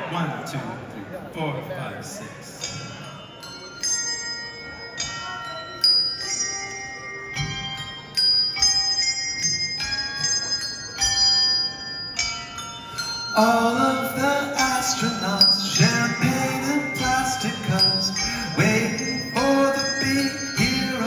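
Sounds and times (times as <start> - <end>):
tuned bells ringing melody: 2.6 - 21.0.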